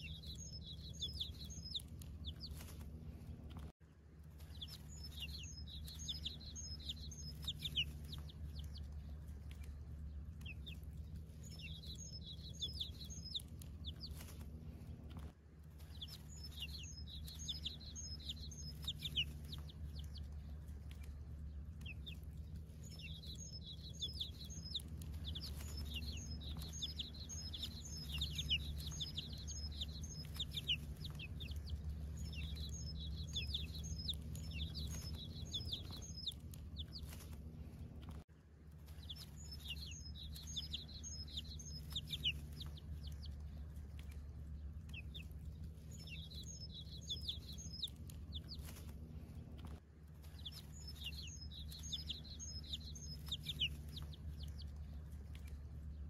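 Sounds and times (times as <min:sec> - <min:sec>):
chicks peeping: 0:00.0 - 0:03.7, 0:04.3 - 0:56.0
steady low hum: 0:00.0 - 0:56.0.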